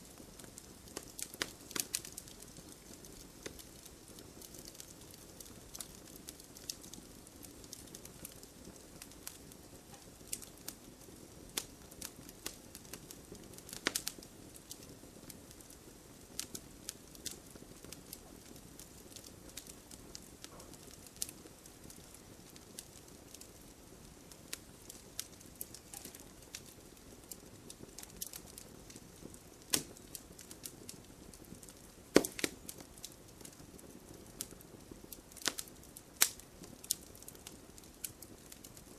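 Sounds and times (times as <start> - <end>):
fire hissing: 0.0 - 38.9
wood fire crackling and popping: 0.0 - 38.9.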